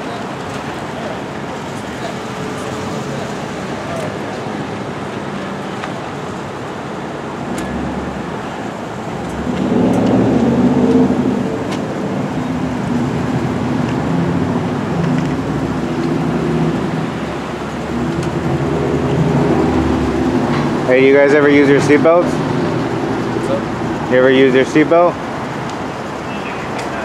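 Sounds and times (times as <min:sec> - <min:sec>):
loud engine hum: 0:00.0 - 0:27.0
vehicle engines idling: 0:00.0 - 0:27.0.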